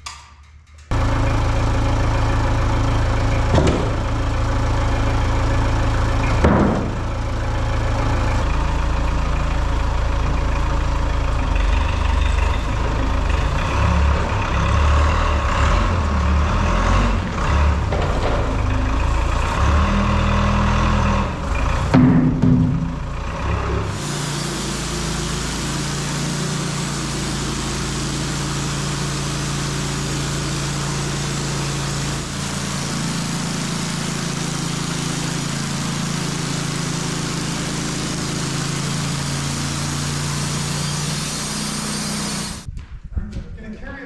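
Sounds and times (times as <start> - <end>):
band sawmill cutting log: 0.9 - 42.7.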